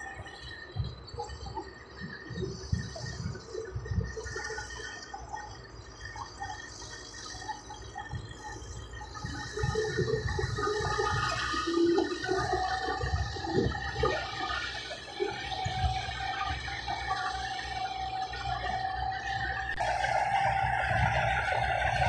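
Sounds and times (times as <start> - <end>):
bulldozer diesel engine rumbling: 0.0 - 22.0.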